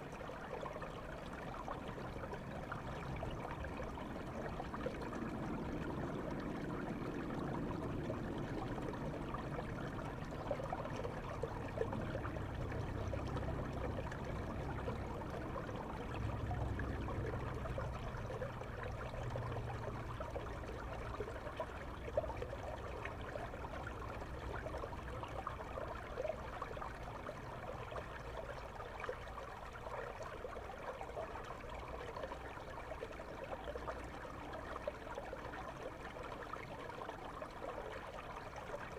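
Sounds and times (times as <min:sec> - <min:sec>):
river water flowing underwater: 0:00.0 - 0:38.9.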